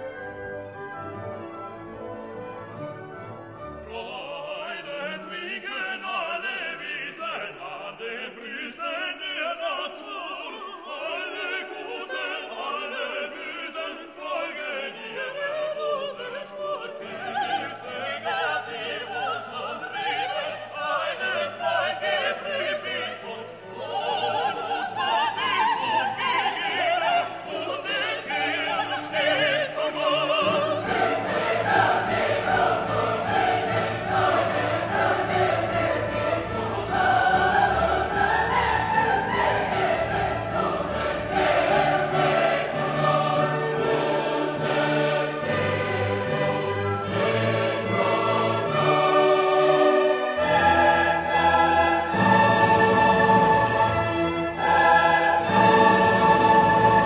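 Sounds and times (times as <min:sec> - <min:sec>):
orchestral music with operatic choir: 0:00.0 - 0:57.0.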